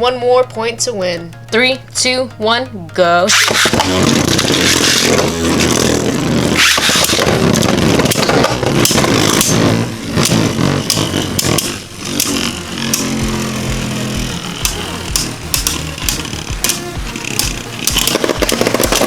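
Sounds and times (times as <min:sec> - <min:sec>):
spinning tops clashing clicks: 0:03.3 - 0:19.0
spinning tops whirring: 0:03.3 - 0:19.0.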